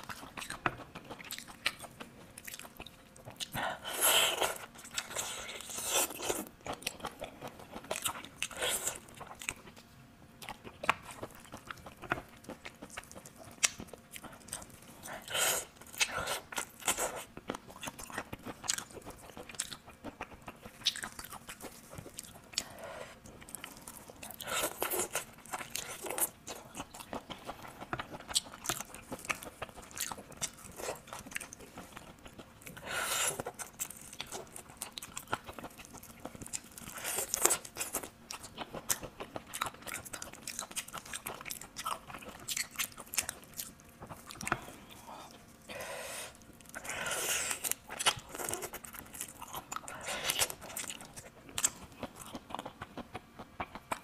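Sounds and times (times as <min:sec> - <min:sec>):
wet chewing and crunching: 0:00.0 - 0:54.0.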